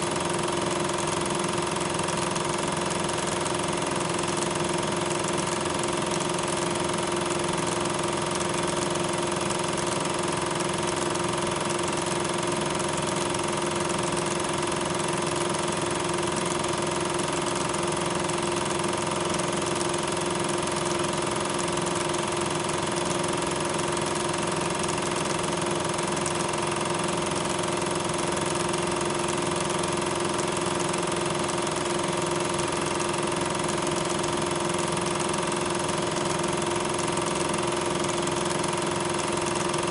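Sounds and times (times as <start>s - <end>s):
film projector motor drone: 0.0s - 39.9s.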